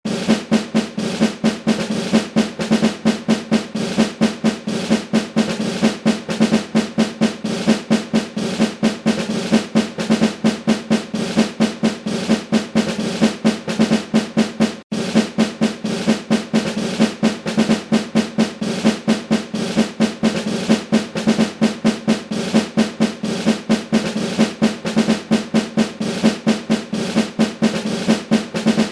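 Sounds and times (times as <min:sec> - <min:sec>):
marching snare drum rolls: 0:00.0 - 0:28.9.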